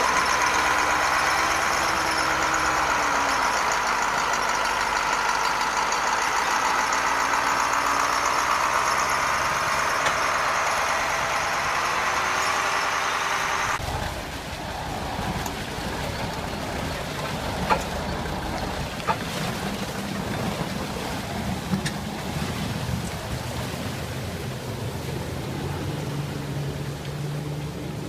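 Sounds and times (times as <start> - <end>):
heavy vehicle engine running: 0.0 - 28.0
outdoor noise wash: 0.0 - 28.0.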